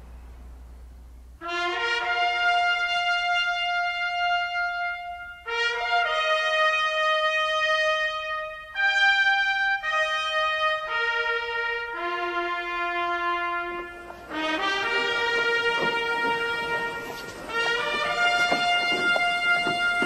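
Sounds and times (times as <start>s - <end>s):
brass-like held chords: 1.3s - 20.0s.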